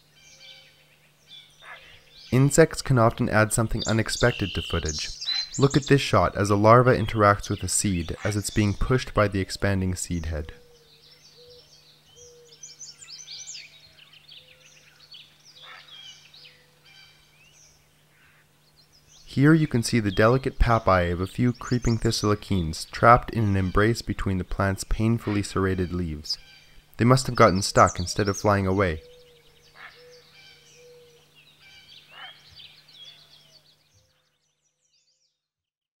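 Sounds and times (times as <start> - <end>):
faint low hum: 0.0 - 34.4
small birds chirping: 0.0 - 35.6.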